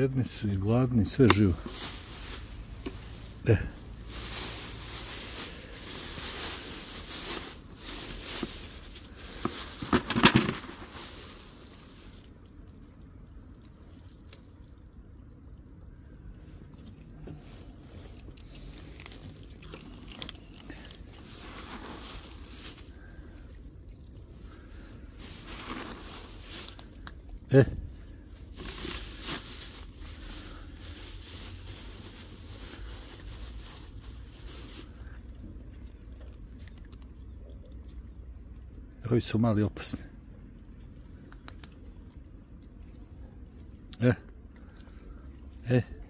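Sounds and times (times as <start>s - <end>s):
cats eating with crunching: 0.0s - 46.0s.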